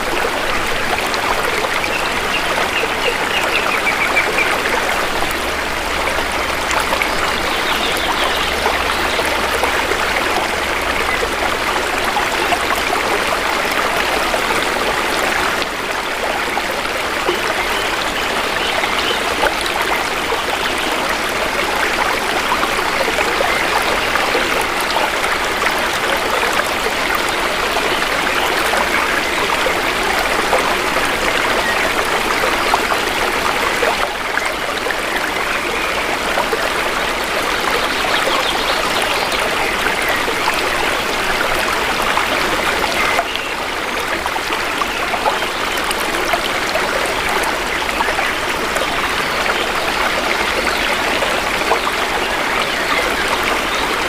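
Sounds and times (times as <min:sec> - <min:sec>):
shallow river water flowing: 0:00.0 - 0:54.0.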